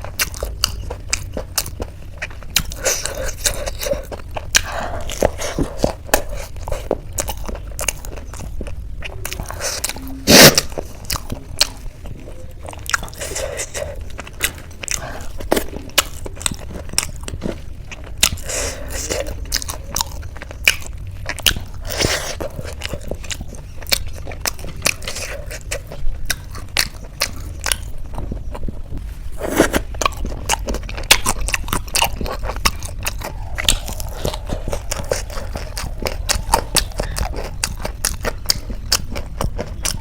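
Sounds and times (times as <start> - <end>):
crunchy chewing of snacks: 0.0 - 40.0.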